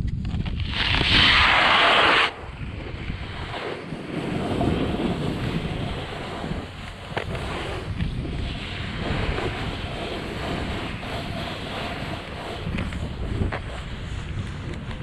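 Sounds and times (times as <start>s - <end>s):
wind rushing over microphone: 0.0s - 15.0s
snowboard carving through snow: 0.4s - 15.0s.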